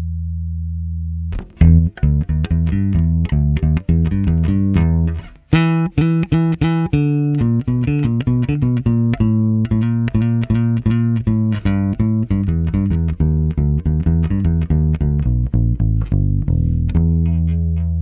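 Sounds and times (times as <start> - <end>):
electric bass plucked notes: 0.0 - 18.0.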